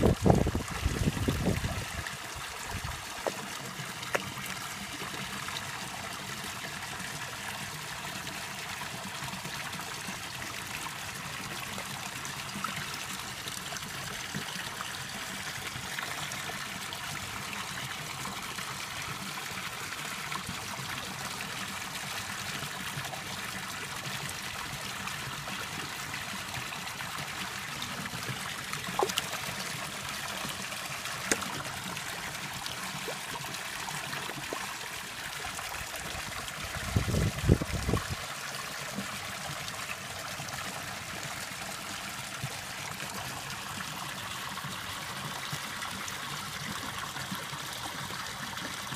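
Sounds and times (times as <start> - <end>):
running water trickling: 0.0 - 48.9.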